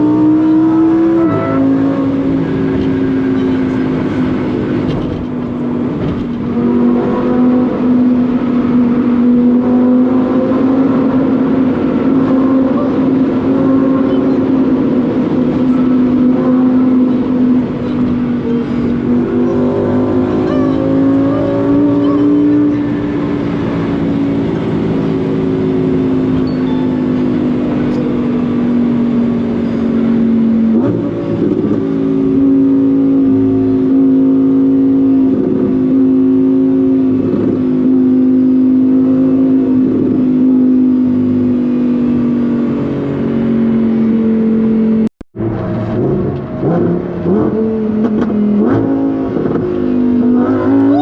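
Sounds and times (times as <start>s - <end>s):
sports car engine droning: 0.0s - 51.0s.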